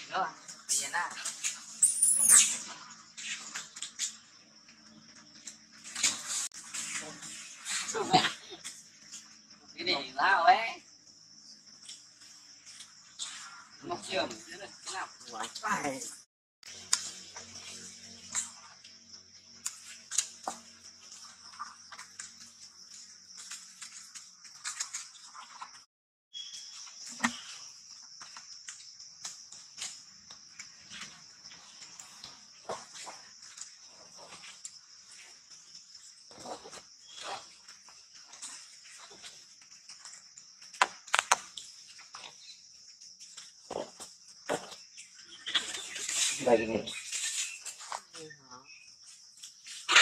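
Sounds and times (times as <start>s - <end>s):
leaves and twigs rustling: 0.0s - 9.6s, 16.6s - 50.0s
insects buzzing: 0.0s - 50.0s.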